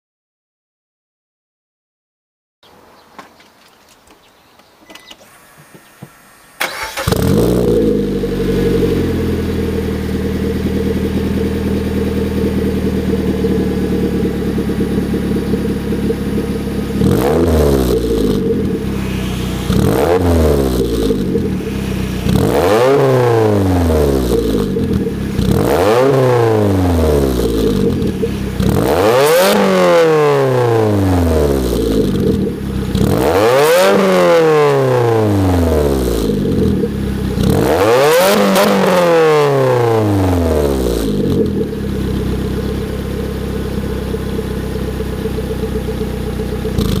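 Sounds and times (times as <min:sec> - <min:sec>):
car engine starting and idling: 0:04.6 - 0:47.0
engine revving: 0:05.2 - 0:47.0.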